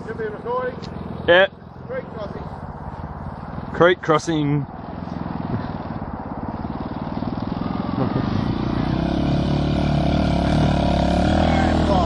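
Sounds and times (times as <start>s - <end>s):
small engine driving: 0.0s - 12.0s.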